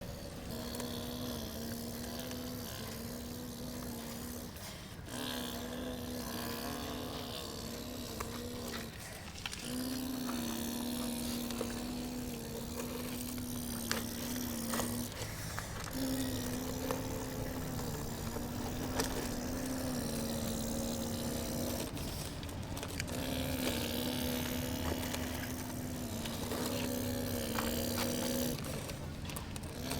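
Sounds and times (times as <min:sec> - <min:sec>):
model excavator motor humming: 0:00.0 - 0:29.9.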